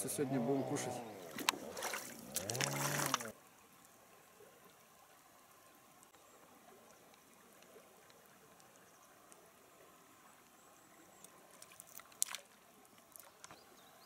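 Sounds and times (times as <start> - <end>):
river water trickling: 0.0 - 14.0.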